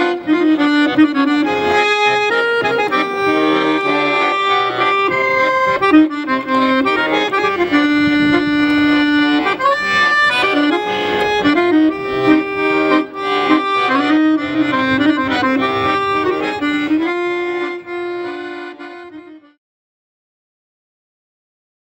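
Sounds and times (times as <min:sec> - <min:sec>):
accordion melody: 0:00.0 - 0:19.6.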